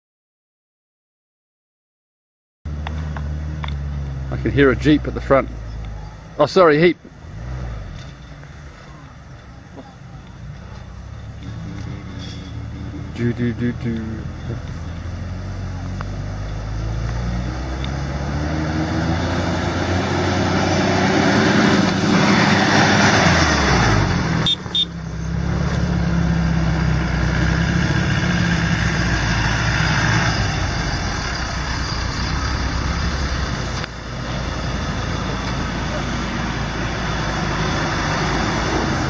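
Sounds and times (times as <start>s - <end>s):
vehicle engine revving: 2.7s - 39.0s.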